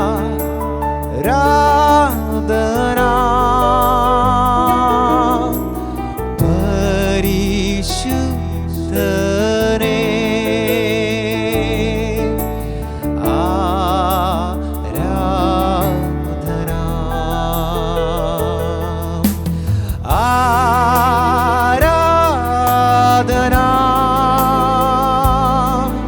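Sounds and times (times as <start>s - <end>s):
electronic keyboard chords: 0.0s - 26.0s
person singing wordless melody: 0.0s - 26.0s.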